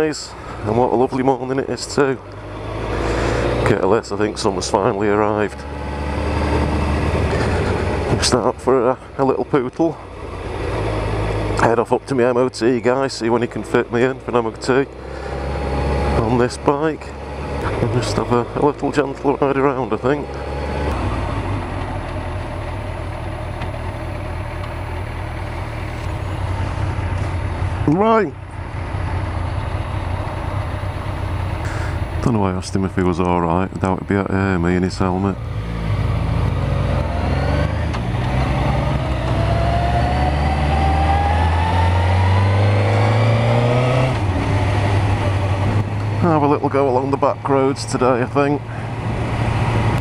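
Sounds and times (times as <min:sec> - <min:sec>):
motorcycle engine at low revs: 0:00.0 - 0:50.0.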